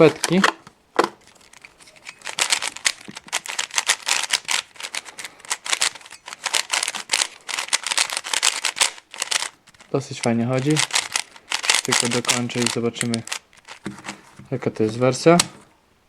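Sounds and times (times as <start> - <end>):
speed cube plastic clicks: 0.0 - 15.6.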